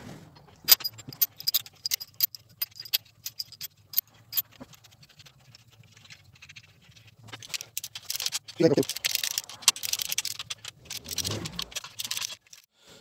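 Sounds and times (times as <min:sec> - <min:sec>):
metallic clicks and clinks: 0:00.5 - 0:12.7.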